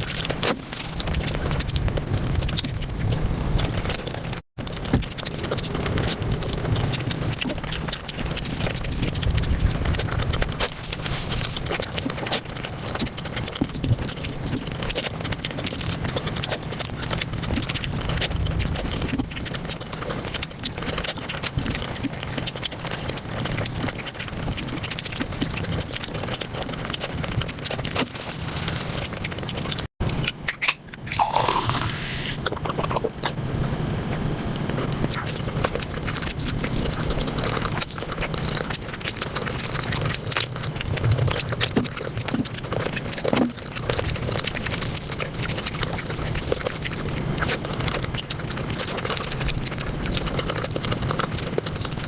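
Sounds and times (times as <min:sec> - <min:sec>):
sped-up chewing and crunching: 0:00.0 - 0:52.0.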